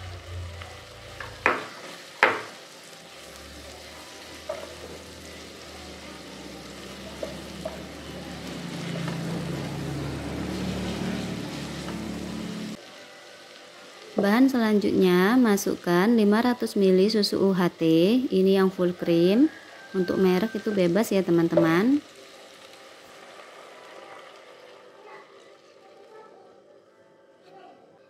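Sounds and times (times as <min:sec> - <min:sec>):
sausages sizzling in pan: 0:00.0 - 0:26.9.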